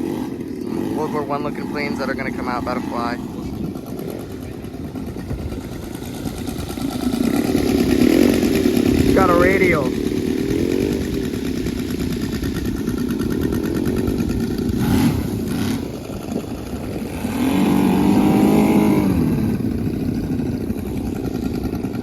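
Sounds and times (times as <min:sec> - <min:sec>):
model airplane engines revving: 0:00.0 - 0:22.0.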